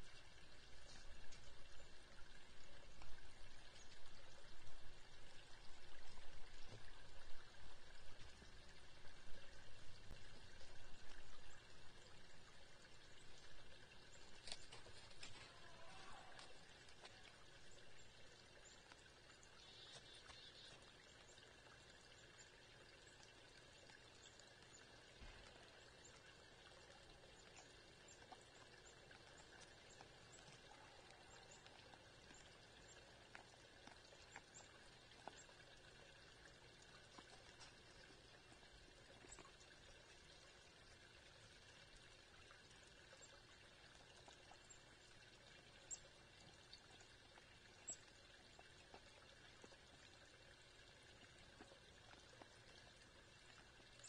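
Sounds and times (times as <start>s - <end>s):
faint outdoor hiss: 0.0s - 54.0s.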